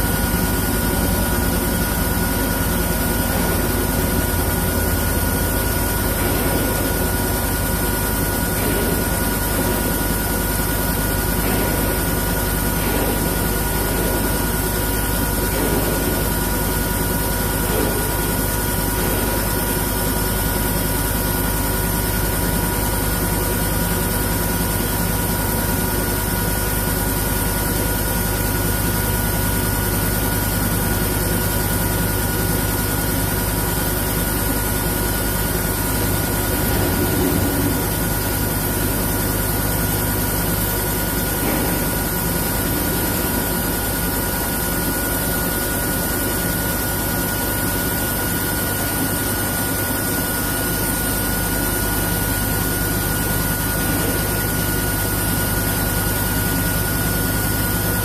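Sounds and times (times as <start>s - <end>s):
milling machine drone: 0.0s - 58.0s.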